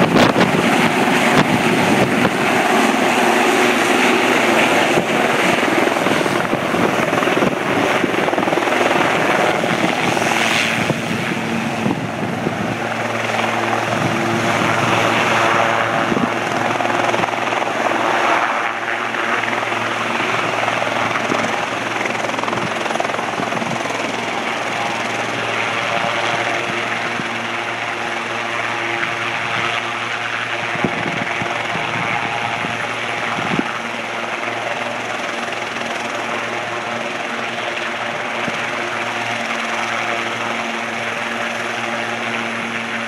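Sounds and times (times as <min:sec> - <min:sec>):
helicopter rotor and turbine drone: 0:00.0 - 0:43.0.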